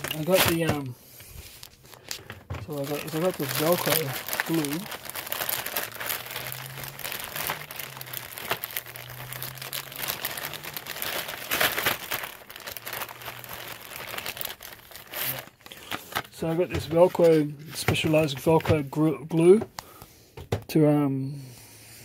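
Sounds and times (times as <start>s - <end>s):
plastic bags crinkling: 0.0s - 19.7s.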